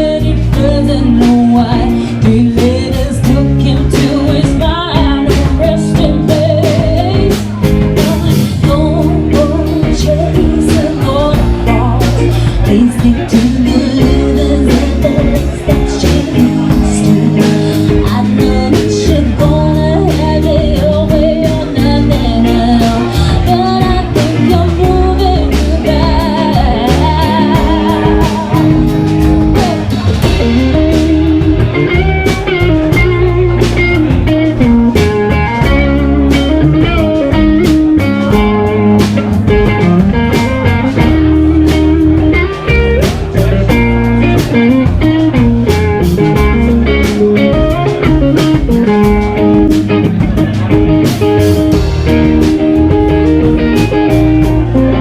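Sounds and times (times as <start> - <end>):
guitar-led song with bass and drums: 0.0 - 55.0.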